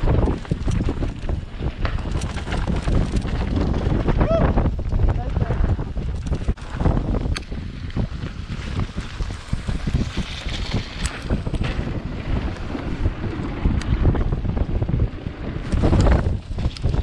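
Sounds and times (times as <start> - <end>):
mountain bike rumbling and rattling: 0.0 - 17.0
wind buffeting microphone: 0.0 - 17.0.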